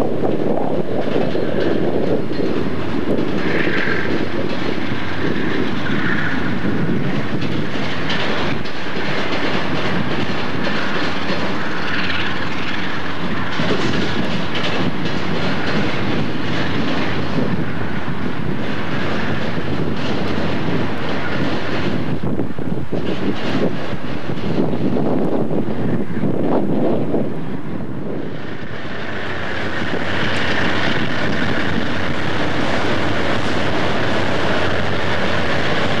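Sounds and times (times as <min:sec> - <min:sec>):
clicks over rail joints: 0:00.0 - 0:36.0
train wheels rumbling on rail: 0:00.0 - 0:36.0.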